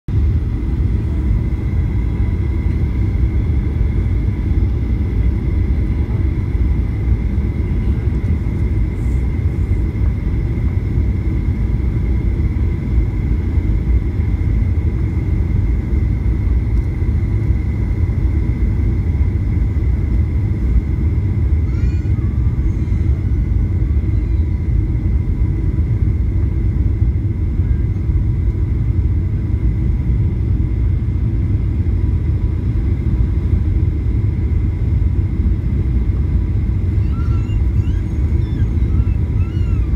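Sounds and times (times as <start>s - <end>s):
jet engines and airflow rumble: 0.1s - 39.9s.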